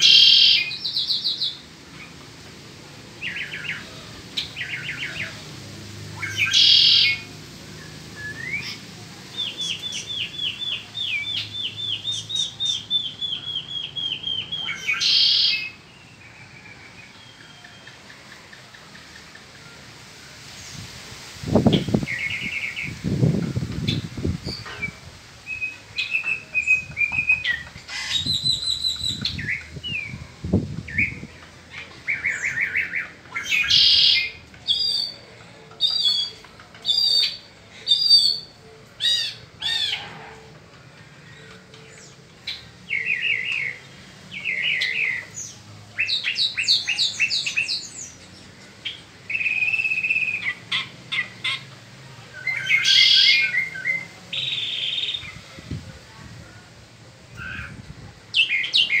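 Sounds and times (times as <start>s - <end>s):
mockingbird singing: 0.0s - 2.1s, 3.2s - 5.4s, 6.1s - 19.6s, 21.6s - 30.2s, 30.8s - 40.2s, 41.2s - 55.4s, 57.4s - 59.0s.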